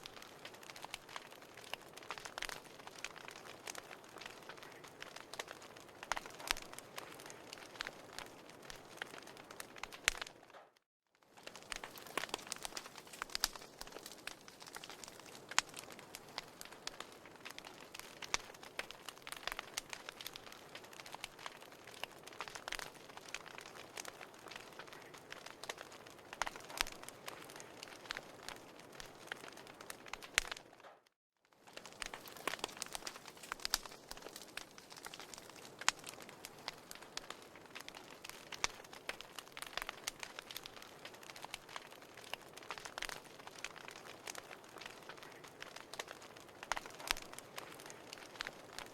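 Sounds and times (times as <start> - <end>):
firewood crackling and popping: 0.0 - 48.9.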